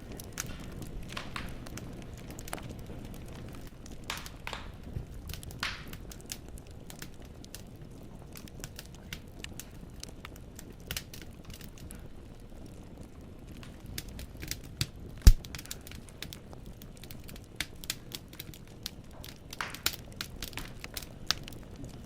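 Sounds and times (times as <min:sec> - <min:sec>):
firewood crackling and popping: 0:00.0 - 0:22.0
low fire background noise: 0:00.0 - 0:22.0.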